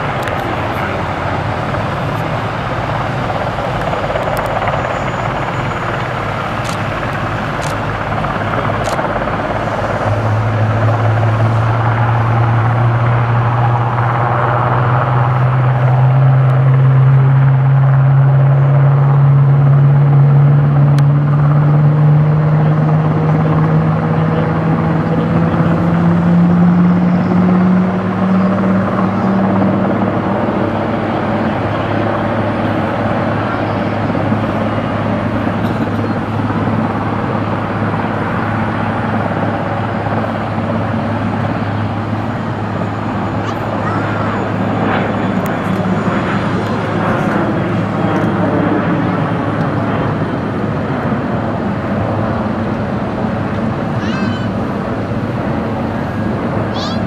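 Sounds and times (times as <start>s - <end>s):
helicopter rotor and turbine: 0.0s - 57.0s
low drone rising in pitch: 0.0s - 57.0s.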